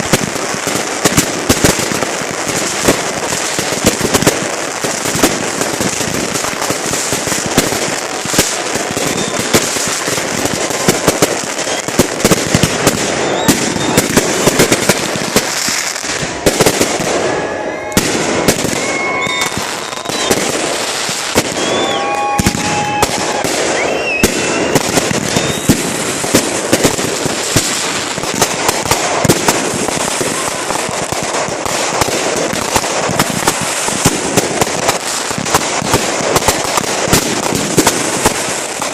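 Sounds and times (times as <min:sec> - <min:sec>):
fireworks bangs: 0:00.0 - 0:38.9
fireworks crackling and popping: 0:00.0 - 0:38.9
fireworks whistling: 0:00.0 - 0:38.9.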